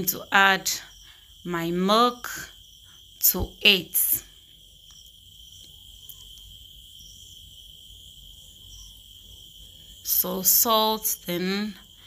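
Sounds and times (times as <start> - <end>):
high-pitched cricket trill: 0.0 - 12.0.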